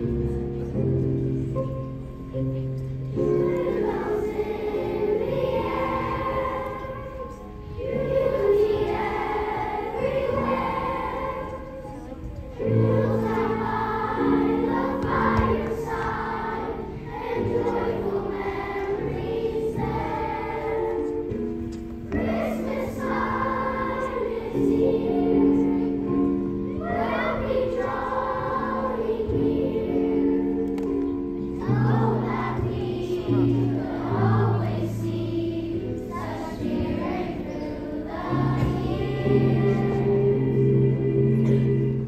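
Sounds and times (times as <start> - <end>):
children's choir singing: 0.0 - 42.0.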